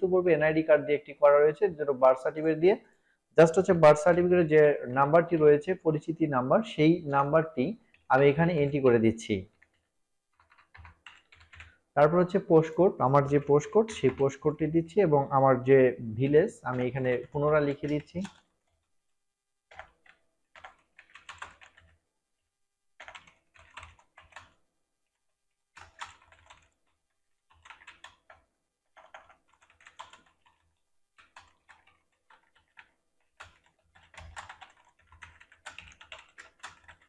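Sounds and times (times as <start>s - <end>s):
faint keyboard typing: 2.1s - 6.1s, 7.0s - 15.1s, 16.3s - 19.0s, 19.6s - 22.0s, 23.0s - 37.0s.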